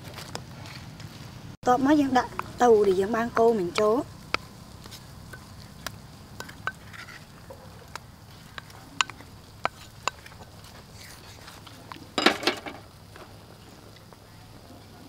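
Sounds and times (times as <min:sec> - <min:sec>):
hot oil crackling and popping: 0:00.0 - 0:15.0.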